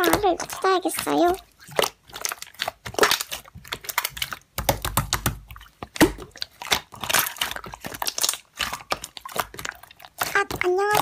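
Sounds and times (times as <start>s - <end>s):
slime crackling and popping: 0.0s - 11.0s.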